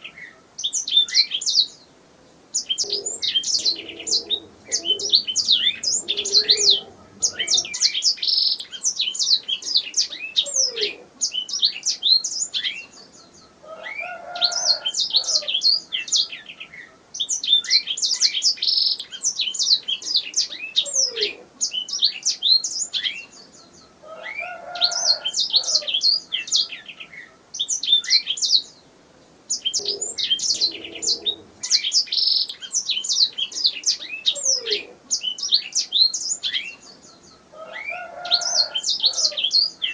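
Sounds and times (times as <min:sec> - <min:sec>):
canary singing: 0:00.0 - 0:01.8, 0:02.5 - 0:28.8, 0:29.5 - 0:39.9.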